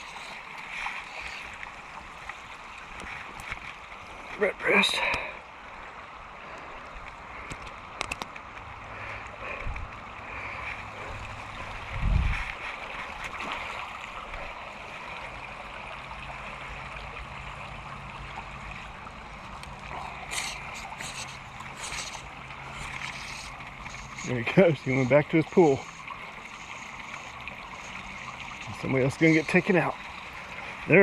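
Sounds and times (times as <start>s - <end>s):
creek water running: 0.0s - 31.0s.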